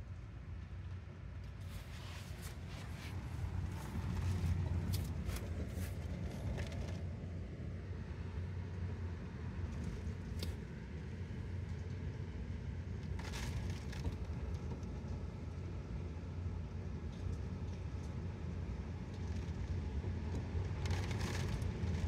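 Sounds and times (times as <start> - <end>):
low rumble of wind: 0.0 - 22.0.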